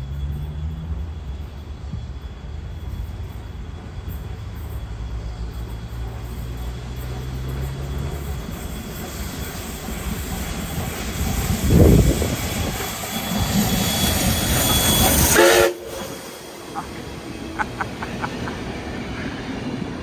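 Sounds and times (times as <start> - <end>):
steam locomotive passing: 0.0 - 20.0.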